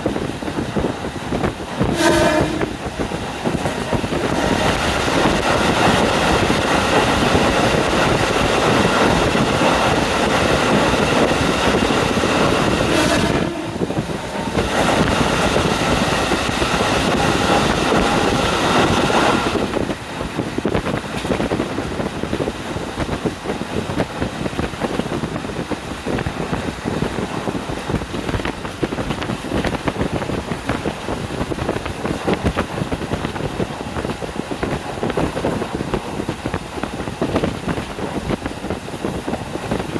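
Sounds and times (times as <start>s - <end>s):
railcar rumbling: 0.0s - 39.9s
wind buffeting microphone: 0.0s - 39.9s.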